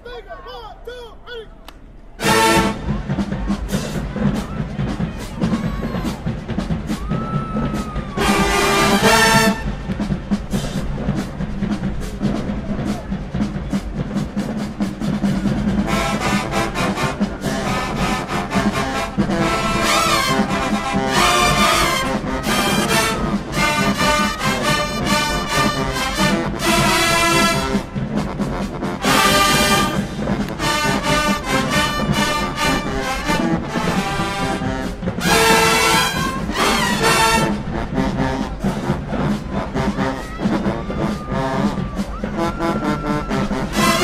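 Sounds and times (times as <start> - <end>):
brass section playing: 2.2 - 13.0, 15.0 - 44.0
drumline hits: 2.2 - 44.0.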